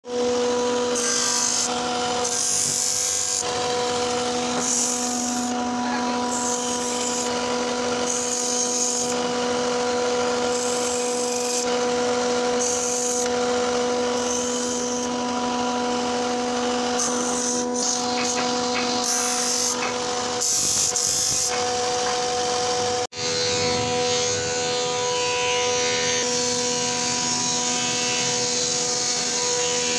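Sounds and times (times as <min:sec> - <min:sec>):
sander motor humming: 0:00.0 - 0:29.9
wood rasping on sander: 0:00.0 - 0:29.9.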